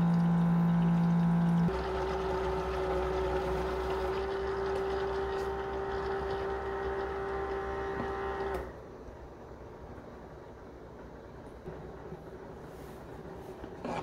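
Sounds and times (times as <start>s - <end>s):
coffee maker pump humming: 0.0s - 14.0s.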